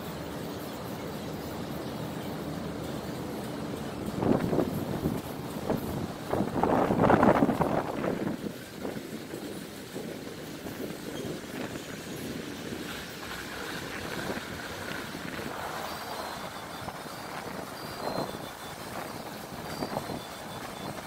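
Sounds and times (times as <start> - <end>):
wind buffeting microphone: 3.1 - 21.0
strong wind gusting: 3.2 - 21.0.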